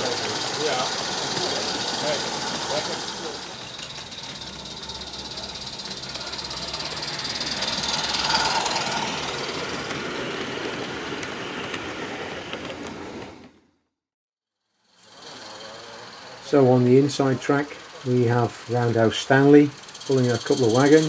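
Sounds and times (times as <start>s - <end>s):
steam locomotive exhaust: 0.0s - 13.3s, 14.9s - 21.0s
wheels clicking over track: 0.0s - 13.7s, 15.0s - 21.0s.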